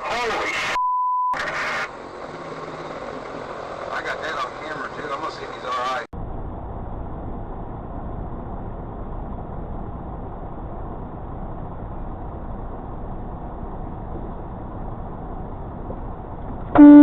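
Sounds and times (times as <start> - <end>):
low vehicle rumble: 1.4 - 17.0.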